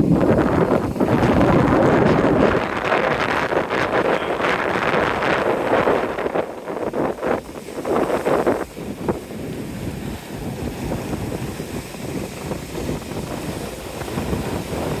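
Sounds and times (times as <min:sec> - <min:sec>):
surf breaking: 0:00.0 - 0:15.0
wind buffeting microphone: 0:00.0 - 0:15.0.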